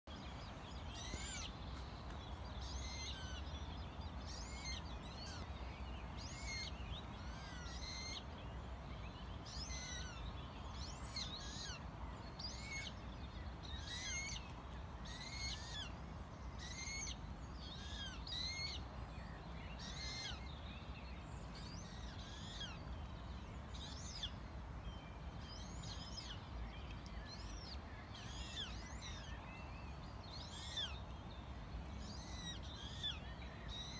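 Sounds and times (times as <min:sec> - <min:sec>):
songbirds twittering: 0:00.1 - 0:33.9.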